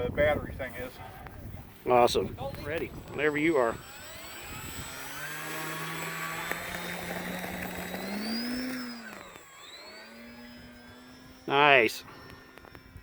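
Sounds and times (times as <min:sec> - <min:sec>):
model airplane motor whining: 0:01.4 - 0:13.0.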